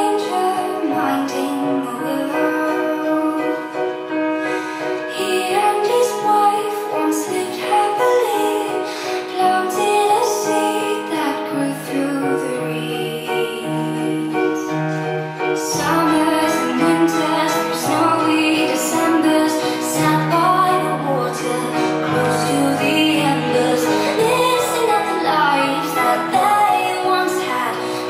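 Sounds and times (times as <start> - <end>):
music with woman singing: 0.0 - 28.0.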